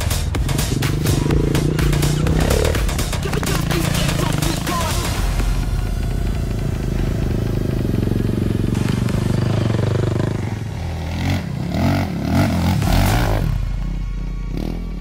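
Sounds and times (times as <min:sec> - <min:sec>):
quad engine revving: 0:00.2 - 0:15.0.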